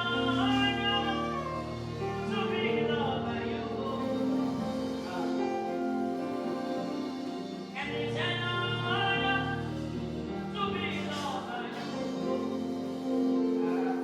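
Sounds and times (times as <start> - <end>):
held instrumental chords: 0.0 - 14.0
sung melody: 0.0 - 14.0.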